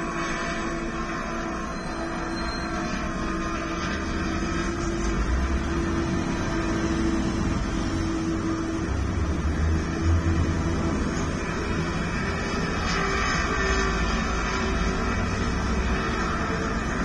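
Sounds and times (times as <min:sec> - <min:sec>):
race trucks engine drone: 0:00.0 - 0:17.0.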